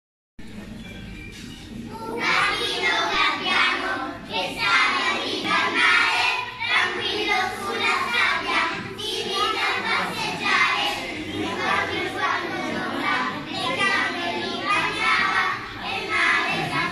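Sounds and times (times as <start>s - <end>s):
young children singing together: 1.8s - 16.9s.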